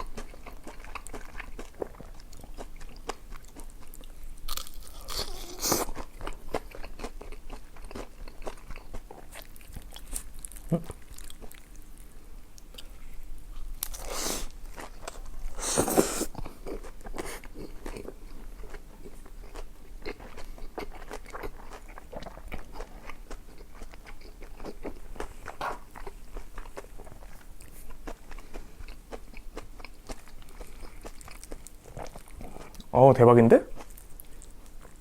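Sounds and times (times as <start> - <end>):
wet chewing and lip smacks: 0.0 - 11.8, 13.6 - 32.9.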